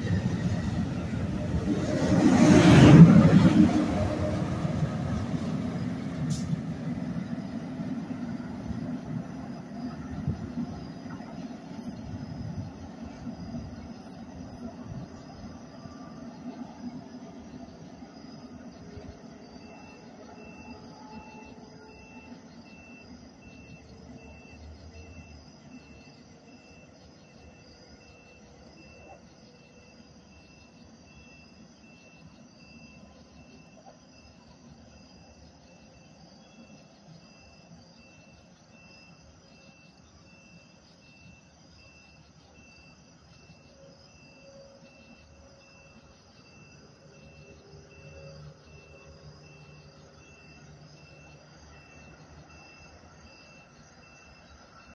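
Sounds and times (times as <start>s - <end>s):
distant train hum: 0.0s - 54.9s
night insects chirping: 0.0s - 54.9s.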